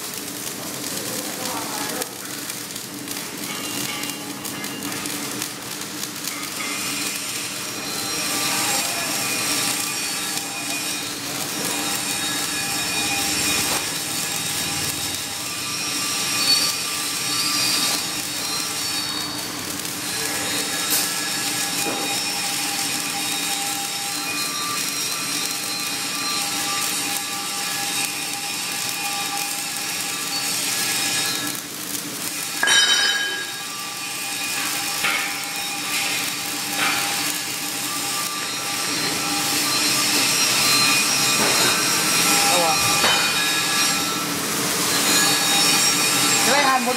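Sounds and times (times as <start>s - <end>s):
welding arc crackling: 0.0s - 46.9s.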